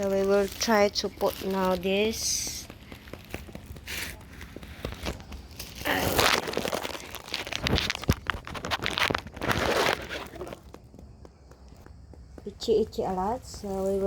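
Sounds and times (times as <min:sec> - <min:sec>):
rustling and crinkling: 0:00.0 - 0:14.0.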